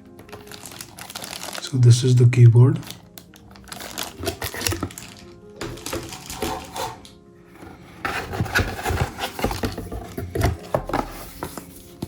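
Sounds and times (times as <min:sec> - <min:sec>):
packaging rustling: 0:00.1 - 0:01.9, 0:02.8 - 0:12.0.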